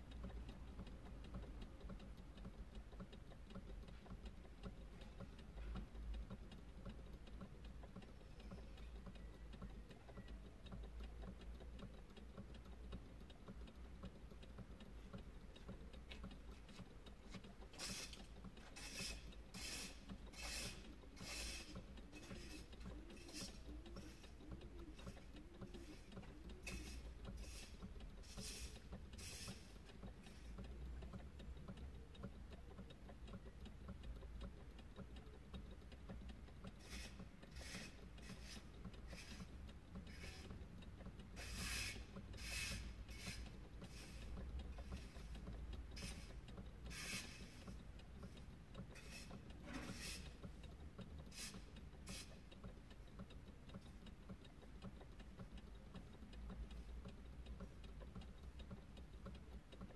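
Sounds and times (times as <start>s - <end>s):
faint mechanical ticking: 0.0s - 59.9s.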